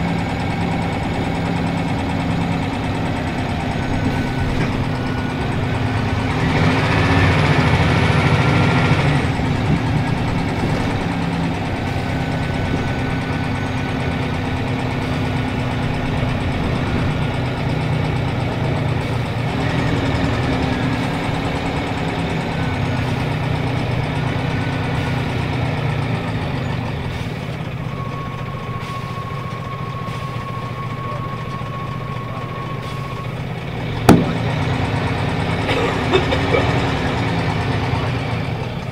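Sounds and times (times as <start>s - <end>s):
bus engine running: 0.0s - 38.9s.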